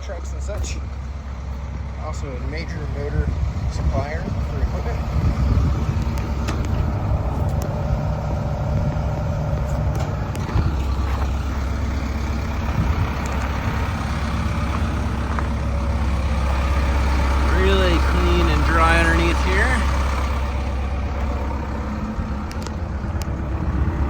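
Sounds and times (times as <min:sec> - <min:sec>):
excavator diesel engine idling: 0:00.0 - 0:24.0.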